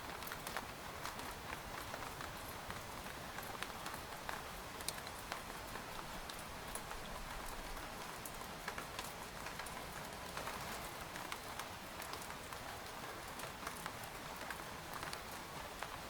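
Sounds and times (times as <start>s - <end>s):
rain on a tent: 0.0s - 16.0s.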